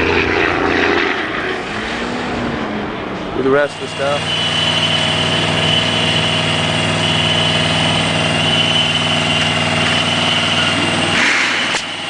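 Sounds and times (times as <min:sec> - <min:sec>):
engine running at low speed: 0:00.0 - 0:12.0
thin high whine: 0:00.0 - 0:12.0.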